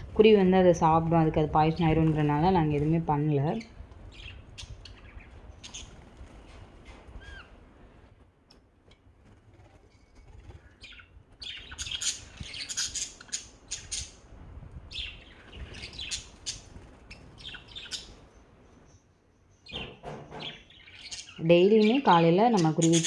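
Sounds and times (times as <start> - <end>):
lovebirds chirping: 0.0 - 7.7, 9.7 - 23.0.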